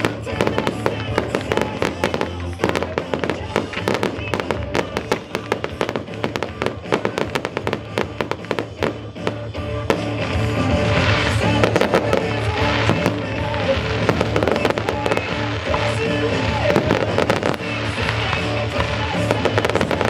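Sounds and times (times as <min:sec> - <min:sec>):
fireworks bangs: 0:00.0 - 0:20.0
fireworks hissing crackle: 0:00.0 - 0:20.0
music: 0:00.0 - 0:20.0.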